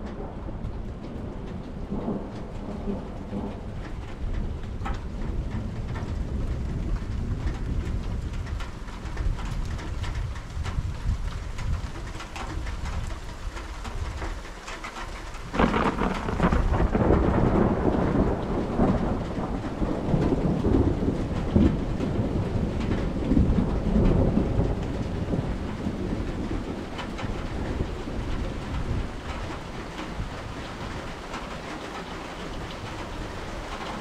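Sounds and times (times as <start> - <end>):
loud thunderclap: 0.0 - 13.2, 15.4 - 34.0
rain pattering: 0.0 - 34.0
thunder rumbling: 0.0 - 34.0.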